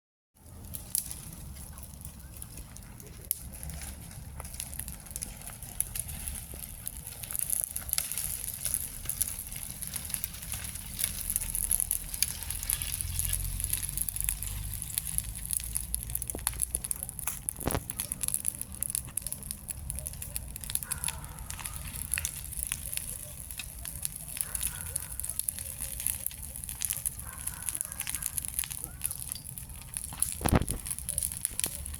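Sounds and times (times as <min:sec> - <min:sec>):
bonfire crackling and popping: 0:00.4 - 0:31.9.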